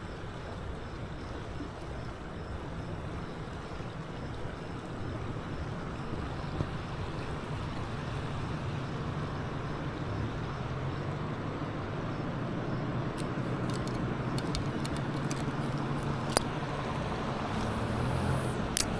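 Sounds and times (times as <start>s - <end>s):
flowing river water rushing: 0.0s - 18.9s.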